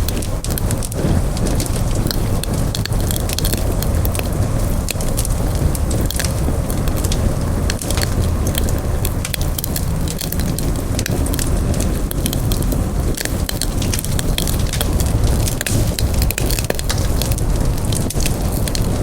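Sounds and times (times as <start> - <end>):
campfire burning: 0.0 - 19.0
wood popping and crackling: 0.0 - 19.0.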